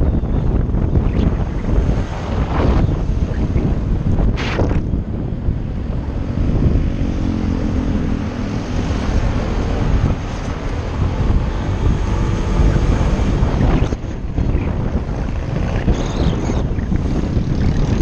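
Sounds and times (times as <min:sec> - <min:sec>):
vehicle engine: 0:00.0 - 0:18.0
wind rushing over microphone: 0:00.0 - 0:18.0.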